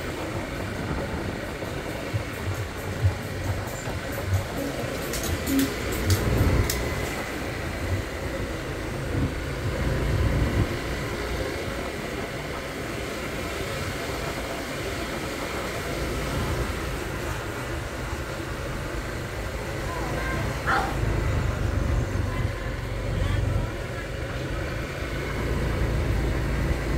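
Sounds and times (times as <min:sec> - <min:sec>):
motorbike engine running: 0:00.0 - 0:26.9
wind and road noise: 0:00.0 - 0:26.9.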